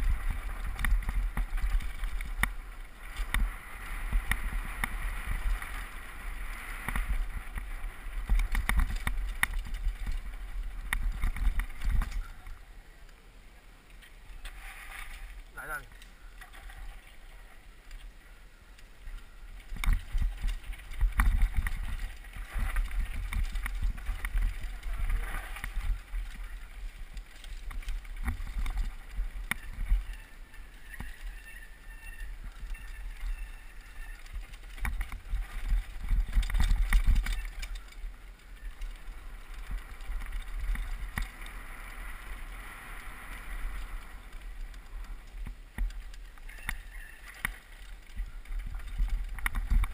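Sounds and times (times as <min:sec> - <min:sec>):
bike rattles and knocks: 0:00.0 - 0:06.0, 0:06.7 - 0:12.4, 0:19.6 - 0:41.7, 0:43.6 - 0:49.9.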